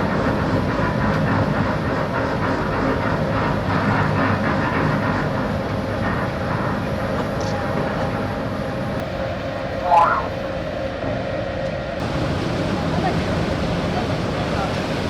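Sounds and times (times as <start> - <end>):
ship engine drone: 0.0 - 15.0.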